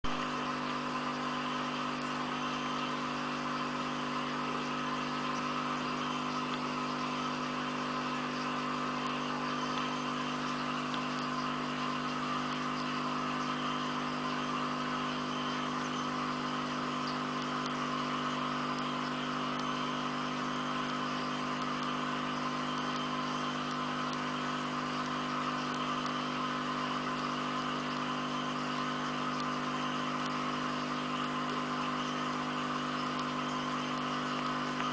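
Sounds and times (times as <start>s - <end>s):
aquarium equipment humming: 0.0s - 34.9s.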